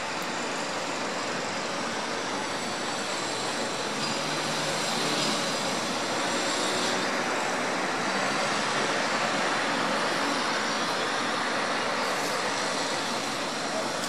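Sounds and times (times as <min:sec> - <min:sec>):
distant city traffic: 0:00.0 - 0:14.0.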